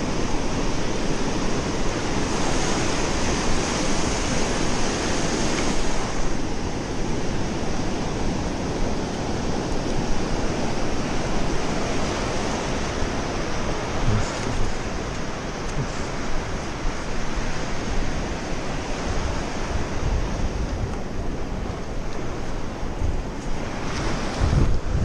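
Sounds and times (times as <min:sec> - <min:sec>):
ocean surf breaking: 0:00.0 - 0:25.0
wind rumble on microphone: 0:00.0 - 0:25.0.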